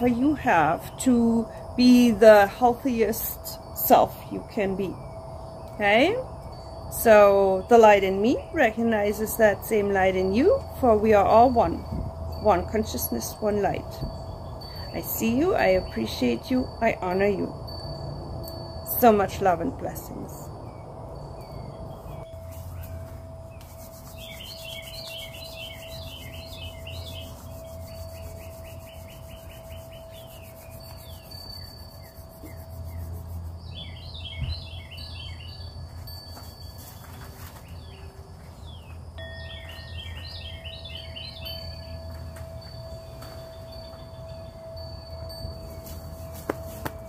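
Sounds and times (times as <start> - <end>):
songbird chirping: 0.0 - 18.1, 18.9 - 47.0.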